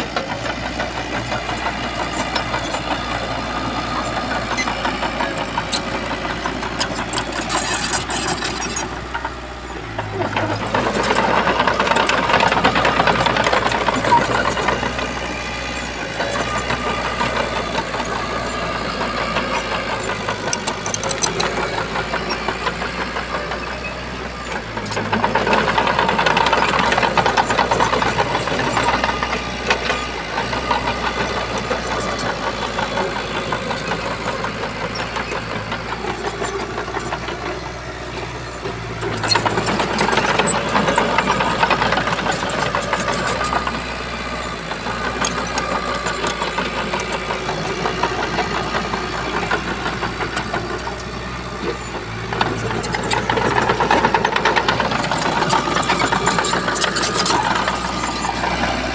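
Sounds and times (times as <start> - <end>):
bulldozer diesel engine knocking: 0.0 - 58.9.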